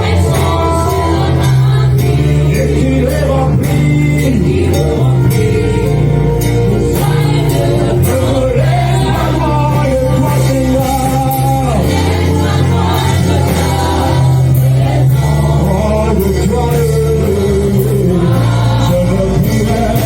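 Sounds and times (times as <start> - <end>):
gospel singing over a beat: 0.0 - 20.0
sustained bass: 0.0 - 20.0.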